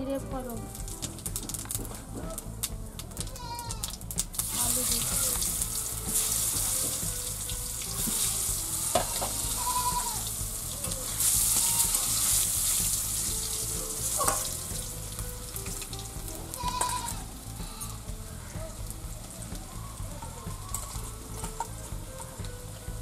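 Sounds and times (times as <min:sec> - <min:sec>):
potatoes sizzling in hot oil: 0:00.0 - 0:23.0.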